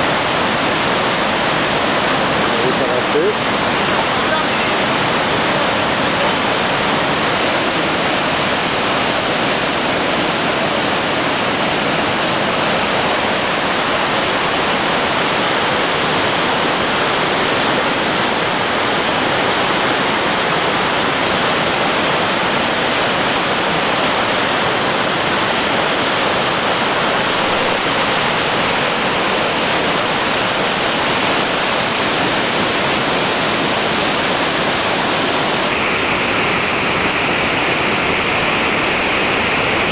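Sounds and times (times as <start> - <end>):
flooded river roaring: 0.0 - 39.9.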